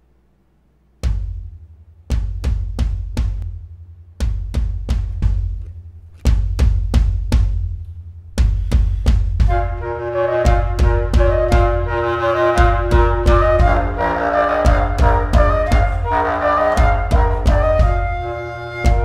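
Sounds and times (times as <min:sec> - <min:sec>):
electronic drums booming: 0:01.0 - 0:19.0.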